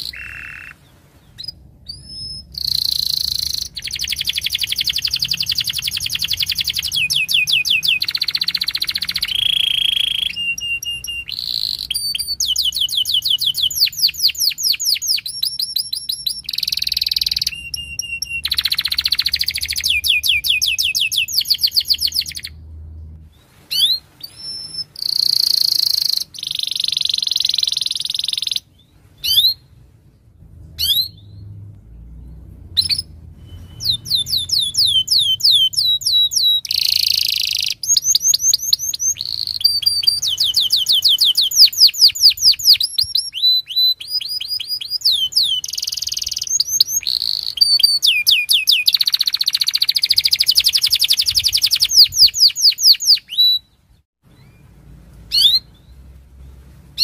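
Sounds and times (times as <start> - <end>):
canary singing trills: 0.0 - 22.7, 23.5 - 29.7, 30.7 - 56.1.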